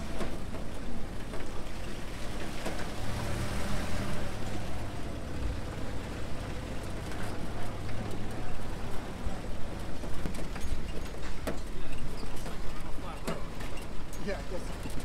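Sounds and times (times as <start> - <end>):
jeep engine hum: 0.0 - 15.0.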